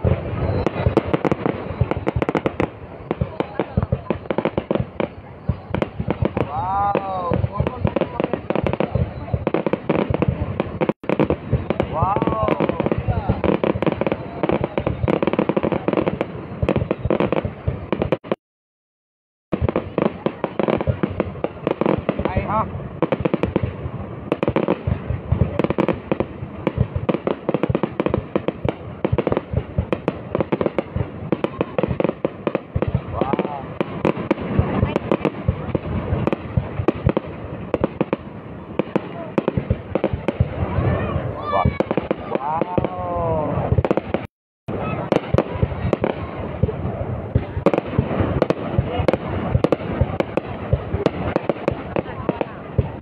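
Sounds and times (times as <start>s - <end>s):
fireworks bangs: 0.0s - 18.4s, 19.5s - 53.0s
fireworks rumble and crackle: 0.0s - 18.4s, 19.5s - 53.0s.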